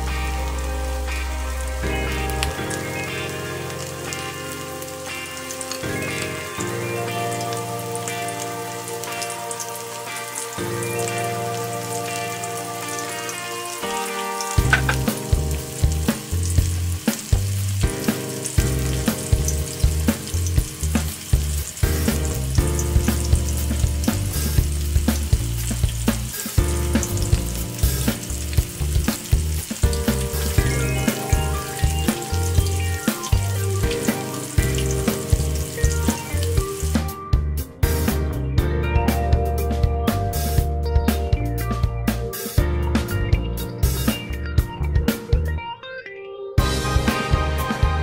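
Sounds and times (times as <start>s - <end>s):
chicken deep-frying in oil: 0.0s - 45.6s, 46.6s - 48.0s
background music with beat: 0.0s - 45.9s, 46.6s - 48.0s.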